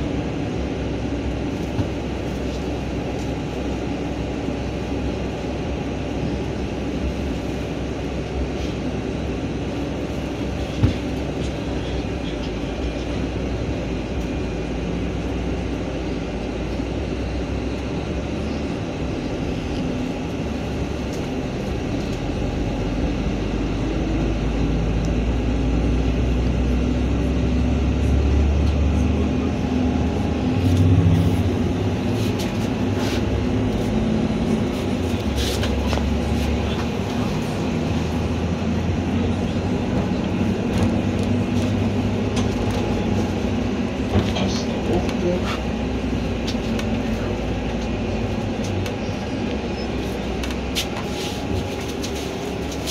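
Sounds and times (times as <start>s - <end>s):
bus engine and road rumble: 0.0s - 52.9s.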